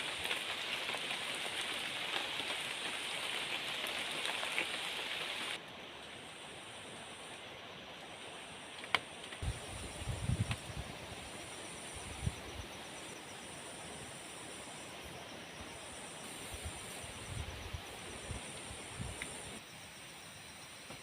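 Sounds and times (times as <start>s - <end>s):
insects buzzing: 0.0s - 21.0s
steady hiss: 0.0s - 21.0s.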